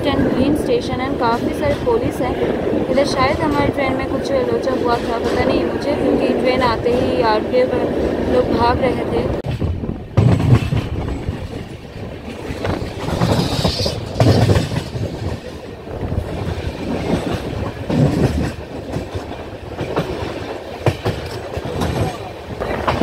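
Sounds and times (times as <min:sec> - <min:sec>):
train wheels clattering on rails: 0:00.0 - 0:07.4, 0:09.4 - 0:23.0.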